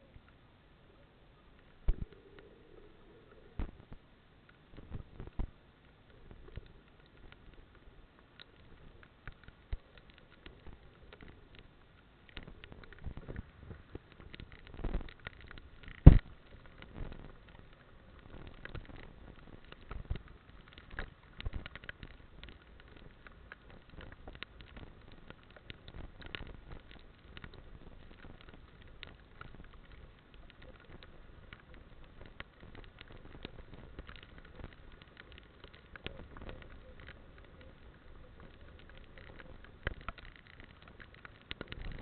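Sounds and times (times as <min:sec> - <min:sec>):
rain tapping on camera: 0:00.0 - 0:42.0.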